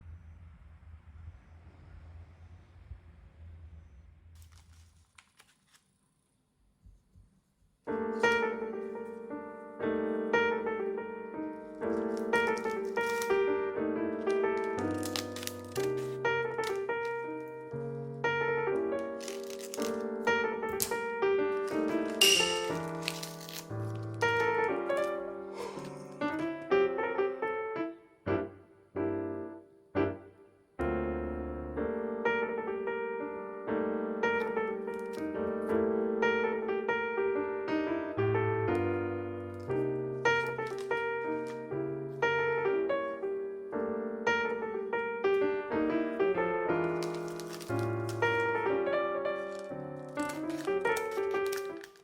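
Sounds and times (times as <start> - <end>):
piano chords: 7.9 - 52.0.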